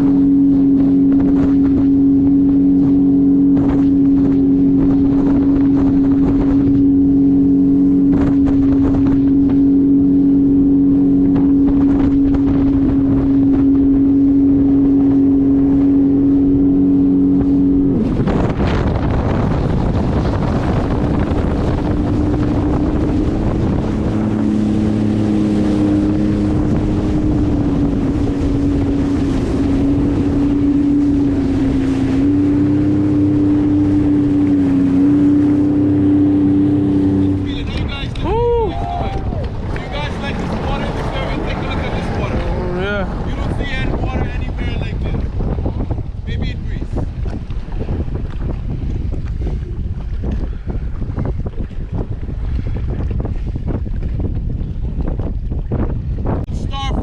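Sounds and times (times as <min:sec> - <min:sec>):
jet ski engine humming: 0:00.0 - 0:57.0
water rushing: 0:00.0 - 0:57.0
wind noise: 0:00.0 - 0:57.0.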